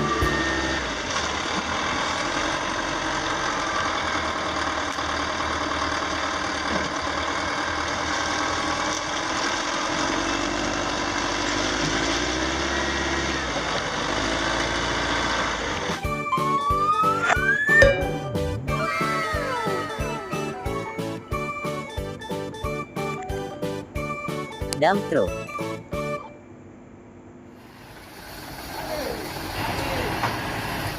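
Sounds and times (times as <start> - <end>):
diesel engine running: 0.0 - 26.0, 27.6 - 30.9.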